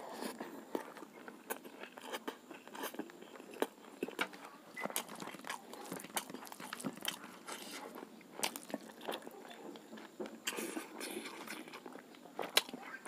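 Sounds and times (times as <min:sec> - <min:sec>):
man chewing with wet smacks: 0:00.0 - 0:13.0.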